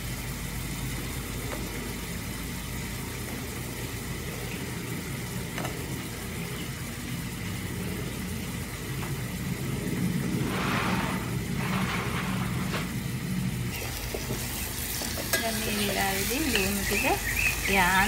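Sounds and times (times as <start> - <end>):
food frying in oil: 0.0 - 18.0.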